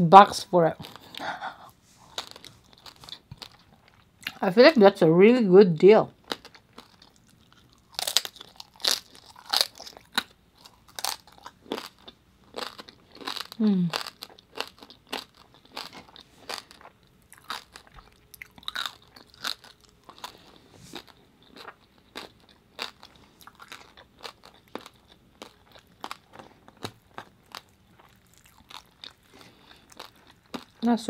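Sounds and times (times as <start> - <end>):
person chewing crunchy food: 0.7 - 4.4, 6.2 - 30.9.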